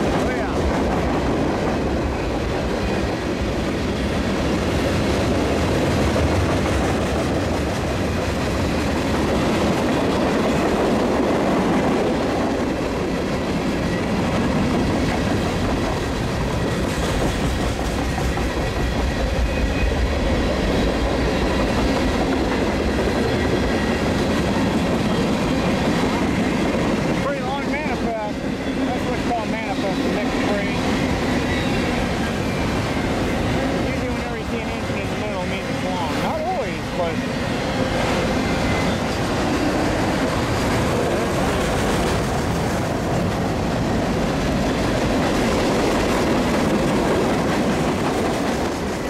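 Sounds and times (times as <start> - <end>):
train wheels on rails: 0.0 - 49.0.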